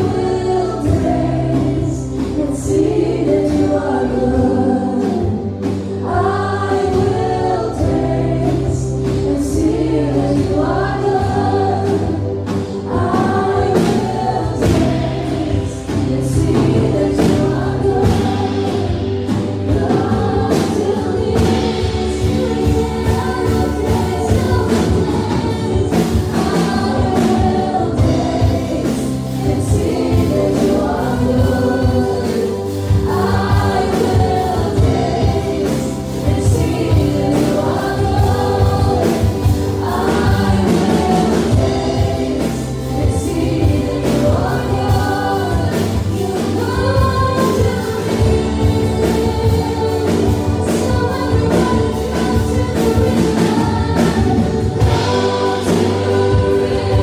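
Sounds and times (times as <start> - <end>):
women singing together: 0.0 - 57.0
worship band playing: 0.0 - 57.0.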